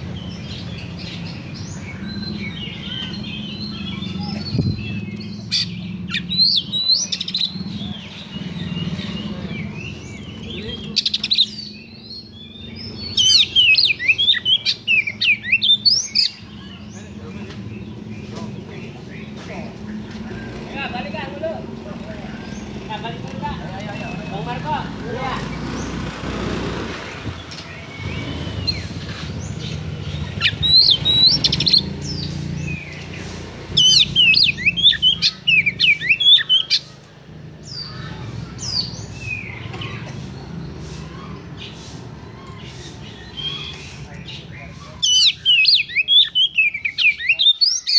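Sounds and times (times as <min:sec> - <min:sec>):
songbird whistling song: 0:00.0 - 0:20.4, 0:27.5 - 0:37.0, 0:37.7 - 0:47.9.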